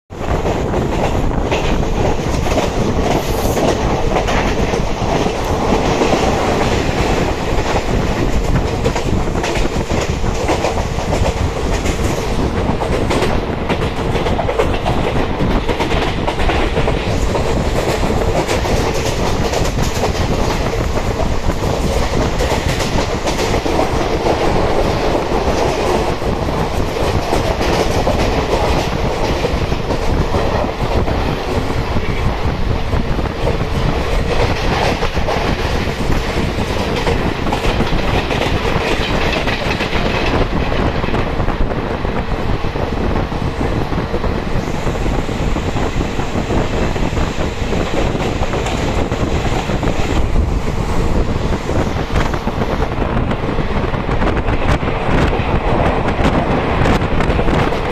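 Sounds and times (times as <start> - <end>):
clickety-clack of rail joints: 0.1 - 57.9
rushing noise: 0.1 - 57.9
train wheels rumbling on rails: 0.1 - 57.9.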